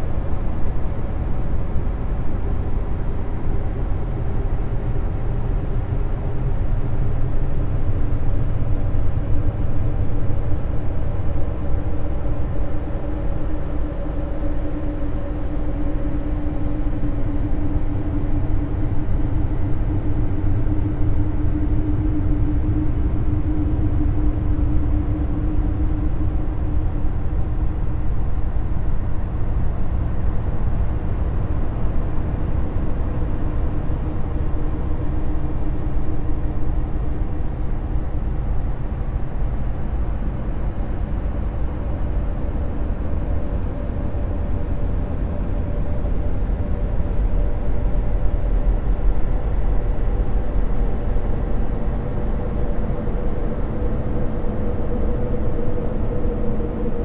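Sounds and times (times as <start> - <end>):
faint held hum: 0.0 - 57.0
low rumbling drone: 0.0 - 57.0.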